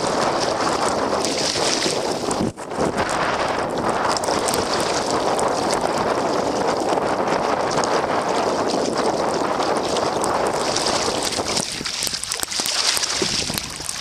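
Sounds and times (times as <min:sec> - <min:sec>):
water splashing around kayak: 0:00.0 - 0:14.0
wind buffeting microphone: 0:00.0 - 0:14.0.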